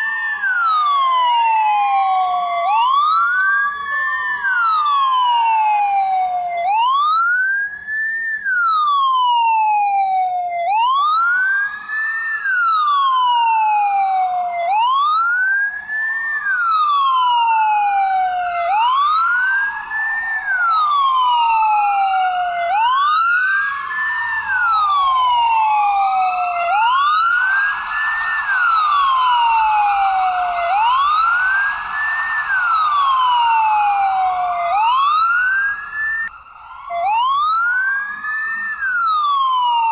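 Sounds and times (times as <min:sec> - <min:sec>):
ambulance siren wailing: 0:00.0 - 0:39.9
fainter second siren wail: 0:00.0 - 0:39.9.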